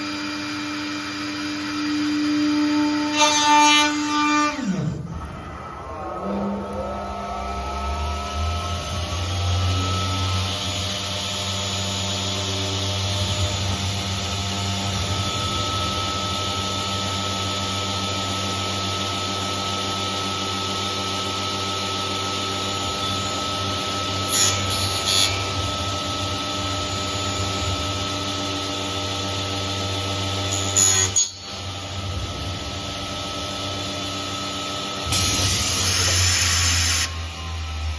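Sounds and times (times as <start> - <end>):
cnc router spindle whine: 0.0 - 37.9
cutter working: 6.5 - 37.9.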